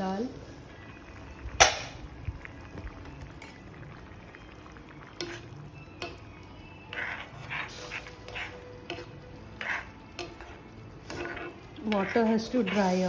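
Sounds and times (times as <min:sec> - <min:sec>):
pot simmering: 0:00.0 - 0:13.0.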